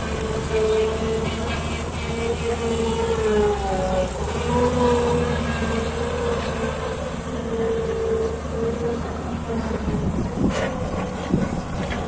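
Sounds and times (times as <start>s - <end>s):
excavator diesel engine droning: 0.0s - 12.0s
hydraulic whine: 0.0s - 12.0s.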